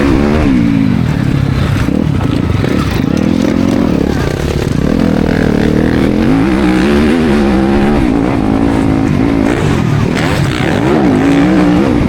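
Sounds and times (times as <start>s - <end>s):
dirt bike engine revving: 0.0s - 12.0s
steady rushing noise: 0.0s - 12.0s.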